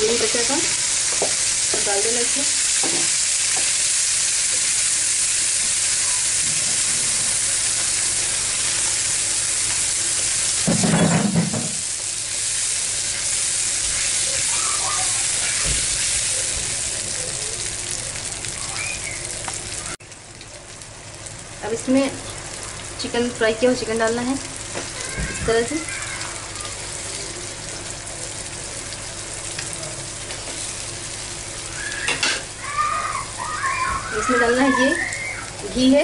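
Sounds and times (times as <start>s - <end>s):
gravy sizzling in a frying pan: 0.0s - 36.0s.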